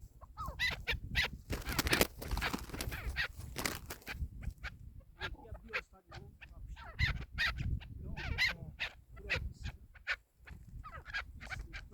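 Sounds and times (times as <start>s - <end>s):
partridge calling: 0.0s - 11.9s.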